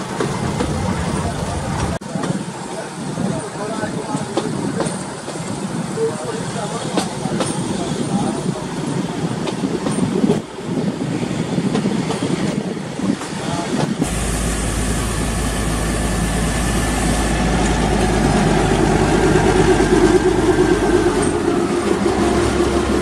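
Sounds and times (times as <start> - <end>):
diesel locomotive engine hum: 0.0 - 23.0
train coach rolling on track: 0.0 - 23.0.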